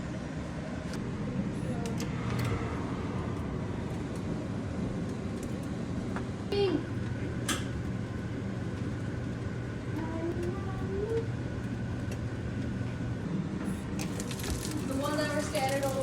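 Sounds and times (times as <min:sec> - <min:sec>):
exhaust fan humming: 0:00.0 - 0:16.0.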